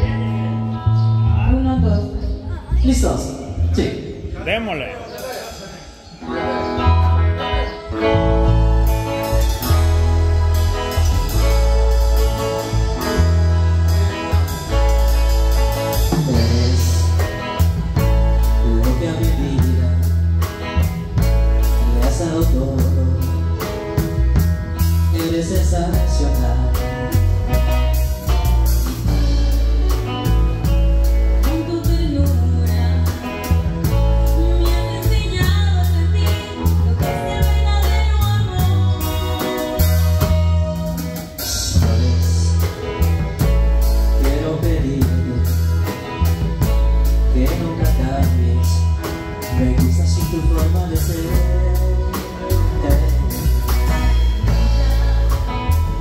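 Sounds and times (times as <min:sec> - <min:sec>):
bass guitar: 0:00.0 - 0:56.0
electric guitar: 0:00.0 - 0:56.0
drum kit: 0:04.5 - 0:56.0
person singing: 0:06.3 - 0:24.4, 0:25.0 - 0:56.0.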